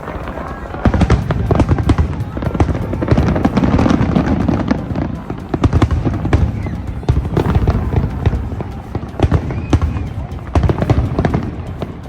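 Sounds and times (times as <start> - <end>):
fireworks bangs and crackling: 0.0 - 12.0
music playing: 0.0 - 12.0.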